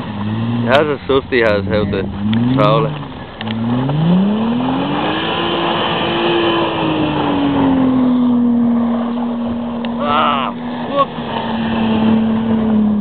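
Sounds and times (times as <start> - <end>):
car engine revving: 0.0 - 13.0
tyres spinning in snow: 0.0 - 13.0.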